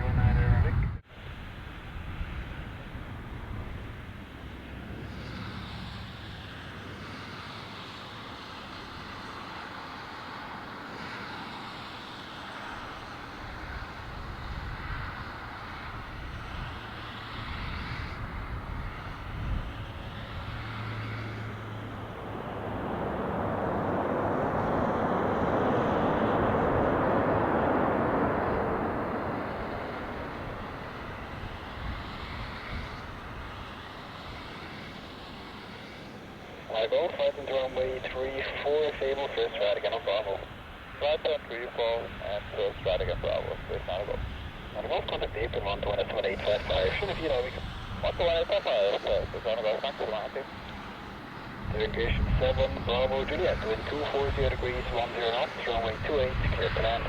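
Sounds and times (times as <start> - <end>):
jet engines rushing on landing: 0.0 - 57.0.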